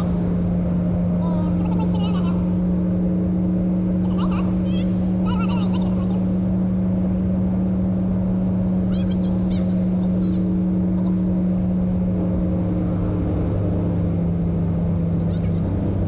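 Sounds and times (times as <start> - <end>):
pickup engine droning: 0.0 - 16.0
road noise: 0.0 - 16.0.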